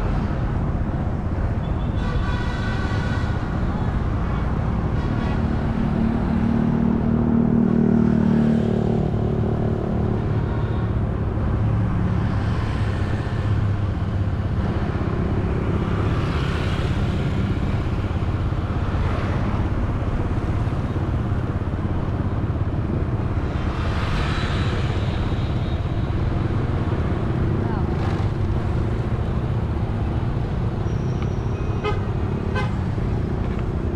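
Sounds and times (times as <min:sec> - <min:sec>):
vehicles whooshing past: 0:04.0 - 0:33.9.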